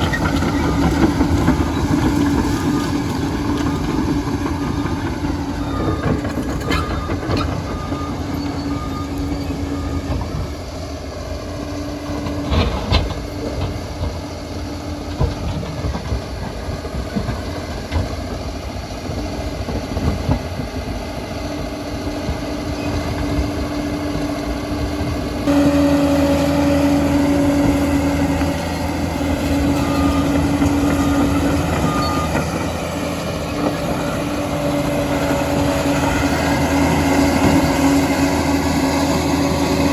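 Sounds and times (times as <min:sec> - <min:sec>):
diesel engine under load: 0:00.0 - 0:39.9
steel tracks clattering: 0:00.0 - 0:39.9.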